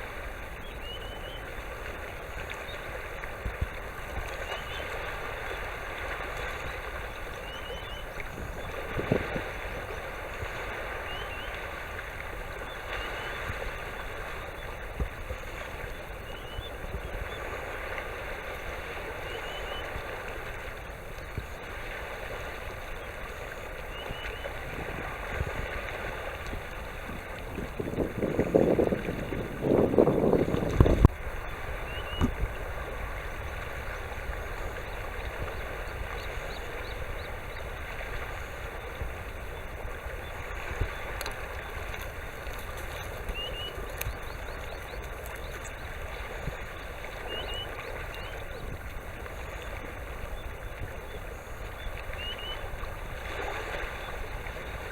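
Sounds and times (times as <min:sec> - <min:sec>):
sandpiper whistled calls: 0:00.0 - 0:21.7, 0:22.6 - 0:30.6, 0:31.2 - 0:54.9
sea and wind: 0:00.0 - 0:54.9.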